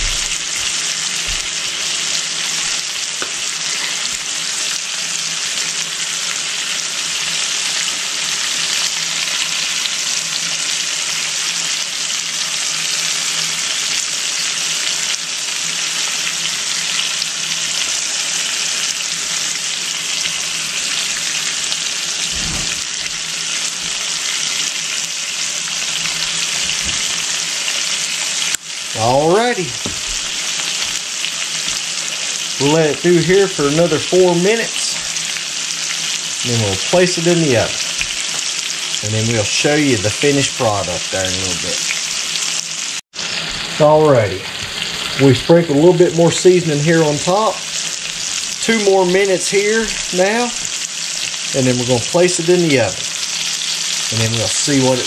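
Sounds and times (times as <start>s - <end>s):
chicken sizzling in a skillet: 0.0s - 55.0s.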